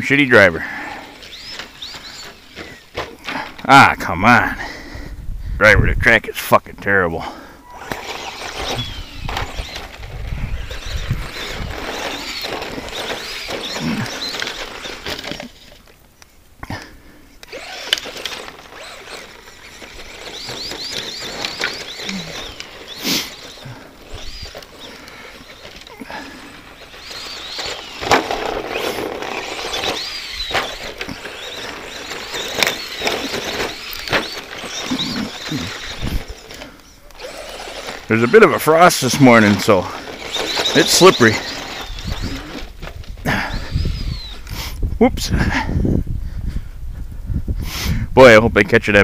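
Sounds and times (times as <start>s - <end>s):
electric motor and gears whining: 0.0s - 4.7s, 7.4s - 16.1s, 17.4s - 45.2s
tyres scrabbling on dirt: 0.0s - 4.8s, 6.1s - 44.8s.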